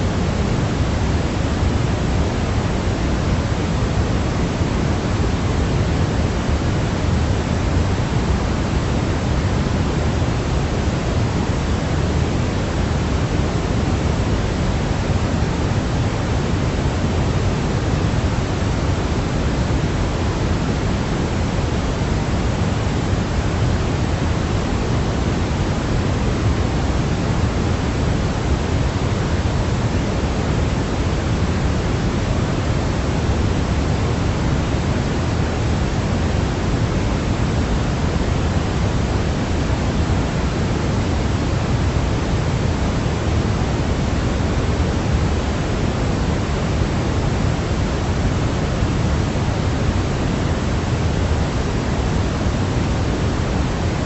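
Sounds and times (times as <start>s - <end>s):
steady low white noise hiss: 0.0s - 54.0s.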